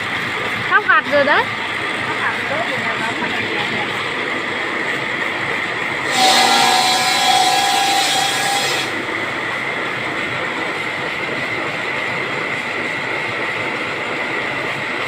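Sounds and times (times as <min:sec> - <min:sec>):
workshop machinery running: 0:00.0 - 0:15.0.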